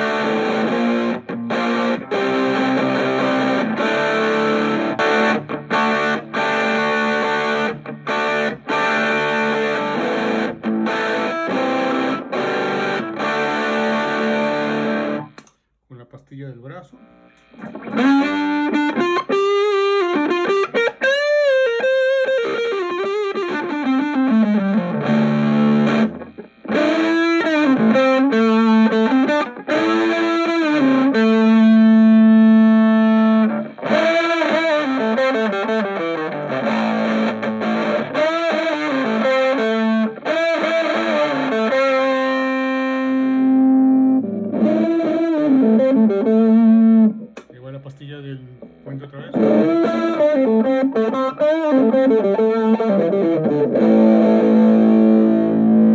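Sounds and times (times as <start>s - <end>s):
distorted electric guitar lead: 0.0s - 15.5s, 17.0s - 47.6s, 48.4s - 55.9s.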